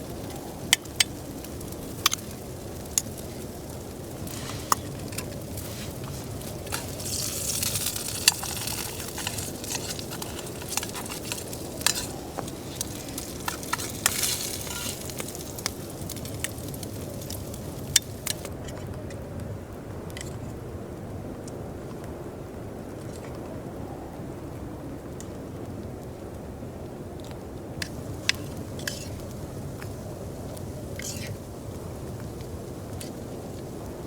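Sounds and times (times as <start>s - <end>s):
campfire sizzling and crackling: 0.0s - 34.0s.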